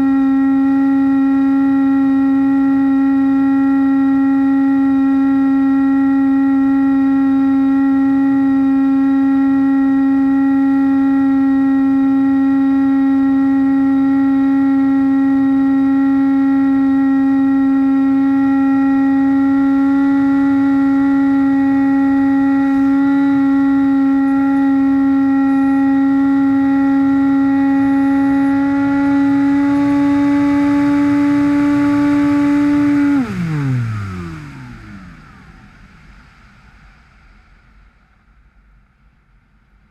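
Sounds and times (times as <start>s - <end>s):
model plane motor drone: 0.0s - 37.8s
propeller winding down: 0.0s - 39.9s.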